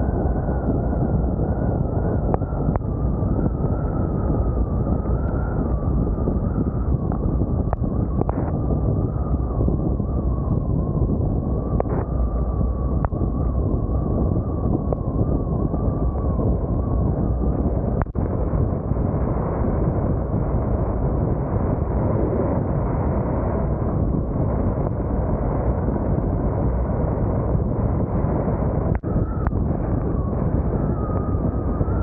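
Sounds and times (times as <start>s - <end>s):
wind rushing past microphone: 0.0s - 32.0s.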